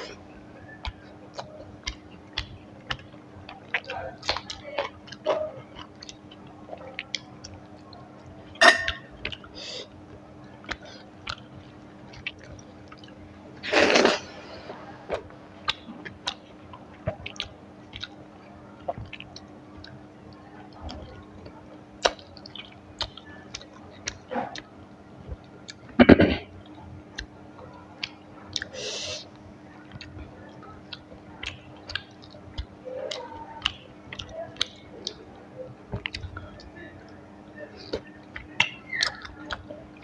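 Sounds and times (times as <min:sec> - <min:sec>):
chewing with wet mouth clicks: 0:00.0 - 0:09.5, 0:10.1 - 0:40.0.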